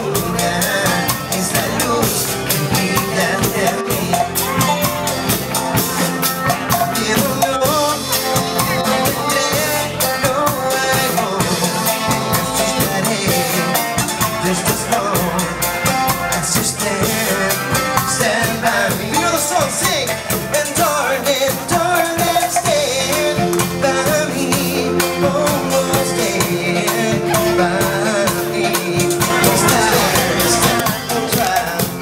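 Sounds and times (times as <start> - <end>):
drum beat: 0.0 - 32.0
person singing: 0.0 - 32.0
street band playing: 0.0 - 32.0.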